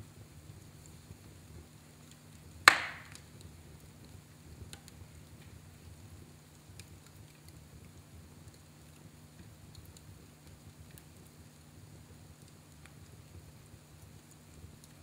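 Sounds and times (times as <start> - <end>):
fire popping and crackling: 0.4 - 15.0.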